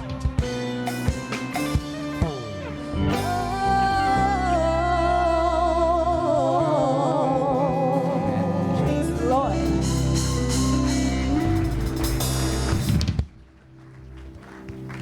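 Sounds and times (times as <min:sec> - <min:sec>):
live gospel music with guitar and drums: 0:00.0 - 0:13.4.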